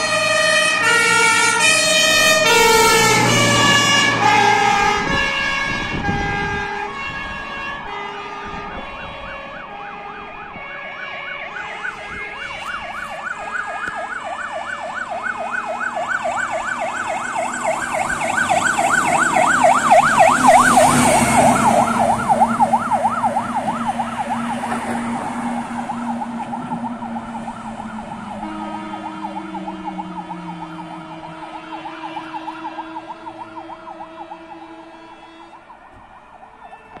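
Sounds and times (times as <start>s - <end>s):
truck engines running: 0.0s - 37.0s
two-tone siren: 0.0s - 37.0s
yelp siren: 0.0s - 37.0s.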